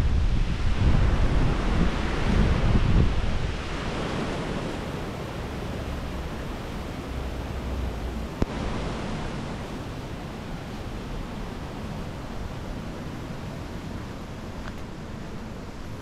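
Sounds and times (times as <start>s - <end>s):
sea surf rushing: 0.0s - 16.0s
wind buffeting microphone: 0.0s - 16.0s.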